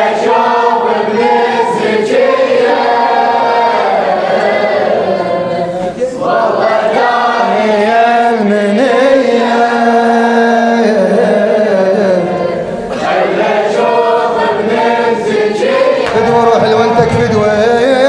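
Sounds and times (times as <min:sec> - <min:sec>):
voices chanting a mourning lament: 0:00.0 - 0:18.0.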